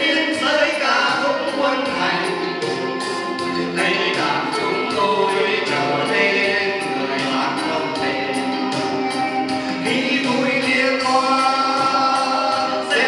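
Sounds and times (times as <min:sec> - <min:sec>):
men singing into microphones: 0:00.0 - 0:13.0
music with steady beat: 0:00.0 - 0:13.0.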